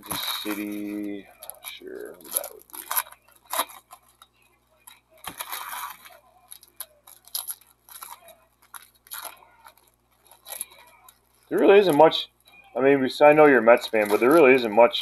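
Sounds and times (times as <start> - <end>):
foil wrappers tearing and crinkling: 0.0 - 15.0.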